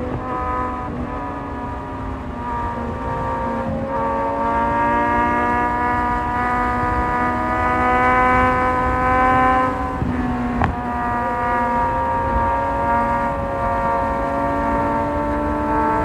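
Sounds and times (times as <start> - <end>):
motorcycle engine under throttle: 0.0 - 16.0
wind rush: 0.0 - 16.0.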